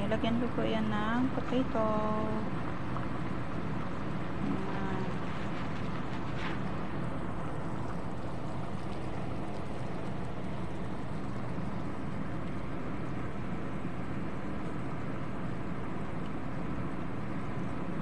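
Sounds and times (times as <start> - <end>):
low hum: 0.0 - 18.0
stew bubbling in a pot: 0.0 - 18.0.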